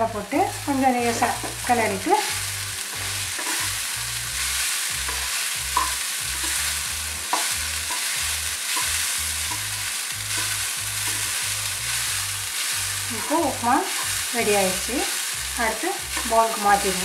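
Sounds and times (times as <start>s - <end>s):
frying sizzle: 0.0s - 17.0s
spatula scraping frying pan: 1.1s - 17.0s.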